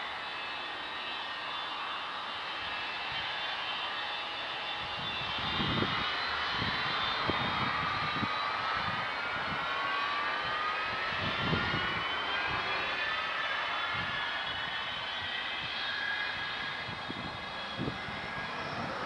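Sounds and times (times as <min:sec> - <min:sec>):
jet engine roar: 0:00.0 - 0:19.0
jet engine whine: 0:00.0 - 0:19.0.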